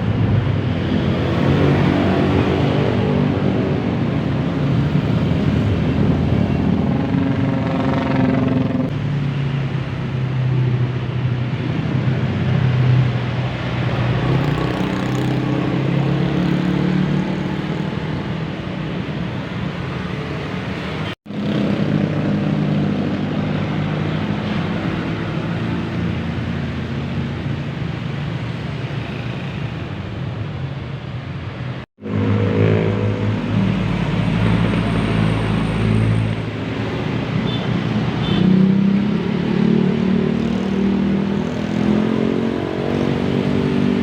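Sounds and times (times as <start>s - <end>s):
bus diesel engines passing: 0.0s - 44.0s.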